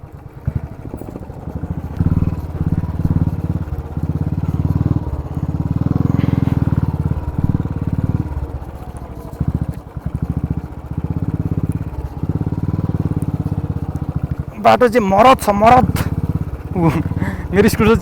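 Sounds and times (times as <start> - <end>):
scooter engine running under load: 0.0 - 18.0.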